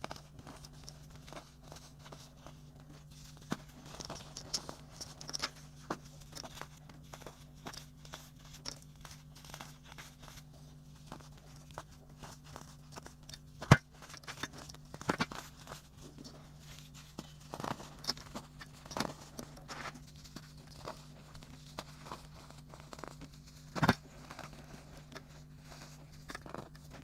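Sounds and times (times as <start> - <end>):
baking soda crunching and crackling: 0.0 - 27.0.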